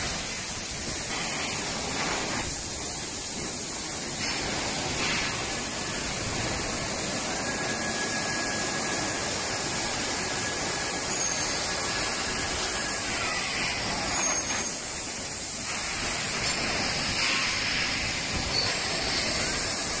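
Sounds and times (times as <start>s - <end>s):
thermoforming machine hissing: 0.0s - 20.0s.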